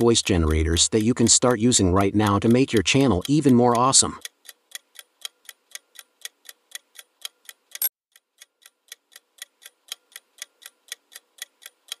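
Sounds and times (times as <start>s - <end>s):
clock-like ticking: 0.0s - 12.0s.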